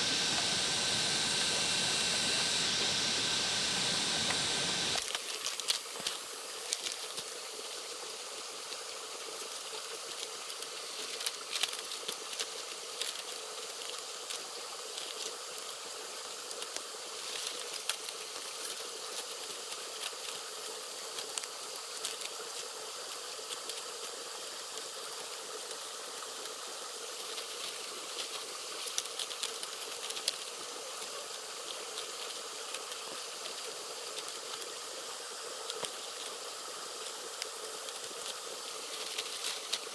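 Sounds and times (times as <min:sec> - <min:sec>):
outdoor hiss: 0:00.0 - 0:39.9.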